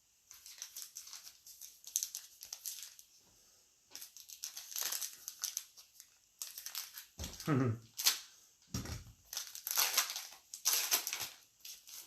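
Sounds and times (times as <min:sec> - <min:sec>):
plastic wrappers crinkling: 0:00.2 - 0:03.2, 0:03.9 - 0:12.0.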